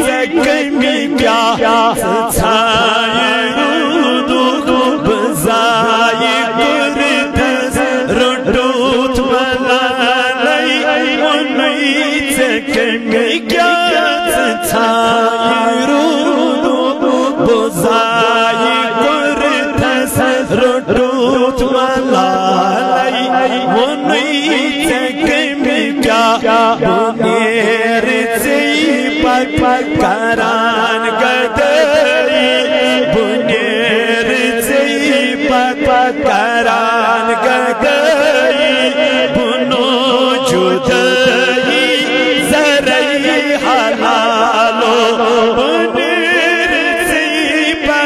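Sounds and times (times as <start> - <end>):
man singing into a microphone: 0.0 - 48.0.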